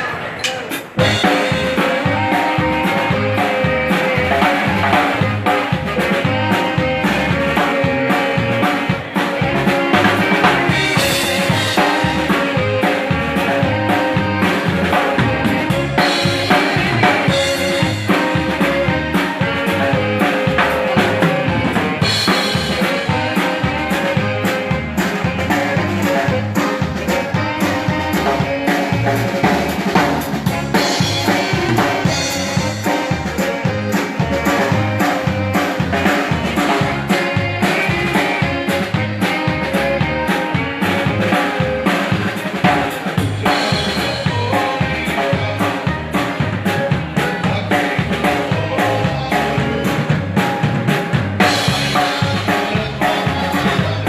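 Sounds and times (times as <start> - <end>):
dance band playing: 0.0 - 54.0
drum kit beat: 0.0 - 54.0
bass line: 1.0 - 54.0.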